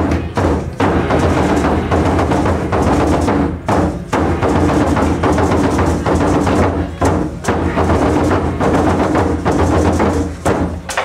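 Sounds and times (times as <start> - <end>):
deep drum strokes: 0.0 - 11.0
rapid sharp drum strikes: 0.0 - 11.0.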